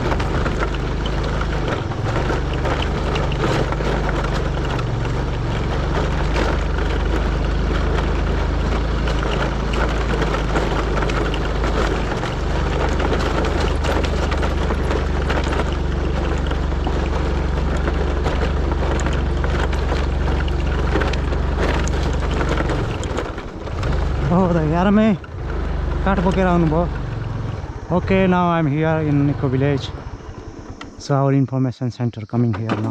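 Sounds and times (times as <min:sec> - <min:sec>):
knocks and rattles on rough track: 0:00.0 - 0:31.4, 0:32.1 - 0:32.9
vehicle engine running: 0:00.0 - 0:31.7
road noise: 0:00.0 - 0:32.9.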